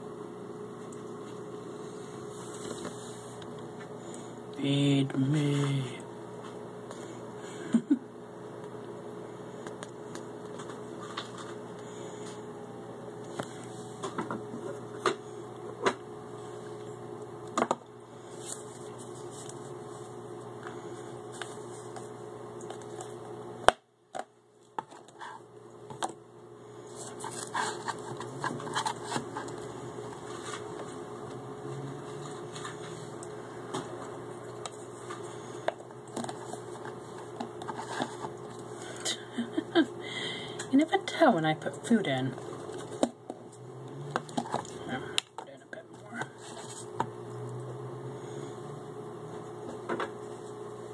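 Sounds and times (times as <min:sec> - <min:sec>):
aquarium filter hum: 0:00.0 - 0:50.9.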